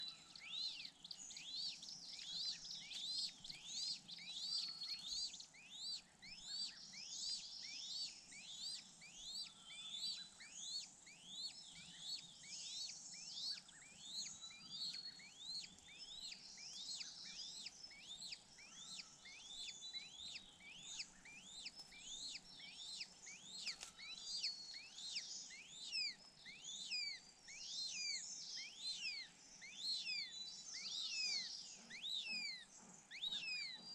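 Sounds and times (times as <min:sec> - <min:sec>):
birds chirping in chorus: 0:00.0 - 0:33.9.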